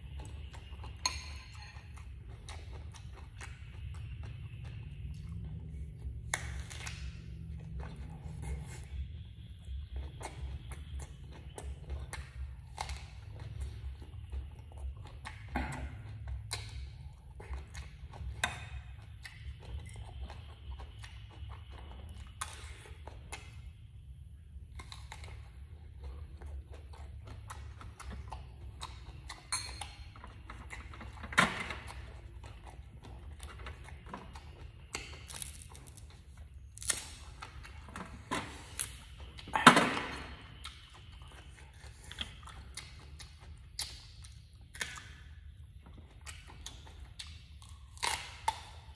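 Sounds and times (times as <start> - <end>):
person chewing and biting: 0.0 - 23.8, 24.6 - 31.2, 31.8 - 48.9
steady low hum: 0.0 - 48.9.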